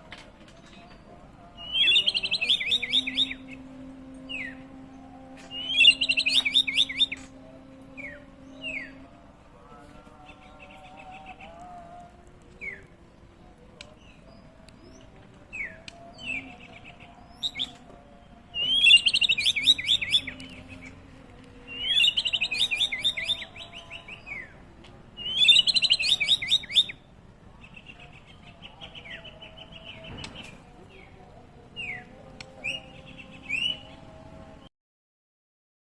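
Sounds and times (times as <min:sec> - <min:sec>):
bird singing rapid repeated notes: 0:00.6 - 0:03.7, 0:04.3 - 0:09.0, 0:12.5 - 0:24.6, 0:25.2 - 0:34.2.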